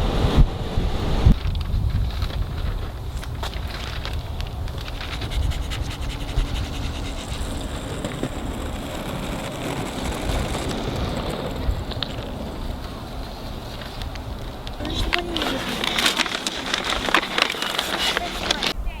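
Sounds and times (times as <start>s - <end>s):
wind buffeting microphone: 0.0s - 19.0s
small clicks and scratching: 1.6s - 12.3s, 13.7s - 18.8s.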